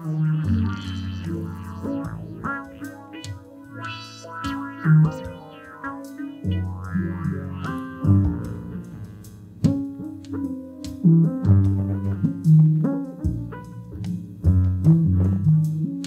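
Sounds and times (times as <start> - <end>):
electronic synthesizer music: 0.0 - 13.7.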